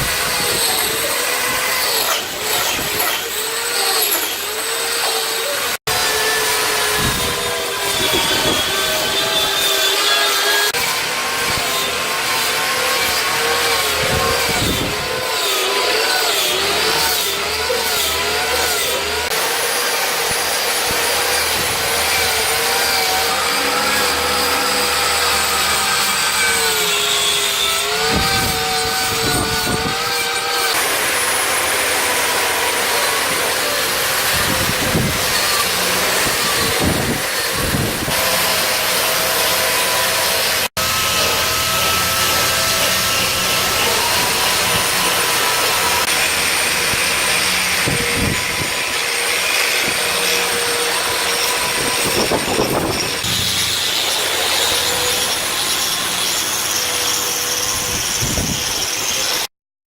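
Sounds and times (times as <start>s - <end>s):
grinding hiss of wood cutting: 0.0s - 59.5s
power-carving tool motor whine: 0.0s - 59.5s.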